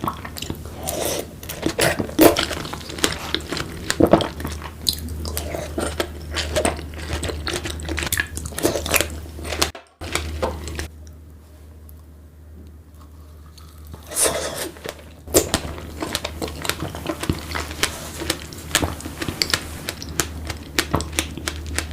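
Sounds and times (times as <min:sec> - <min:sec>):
biting and chewing crunches: 0:00.0 - 0:10.9, 0:13.4 - 0:21.9.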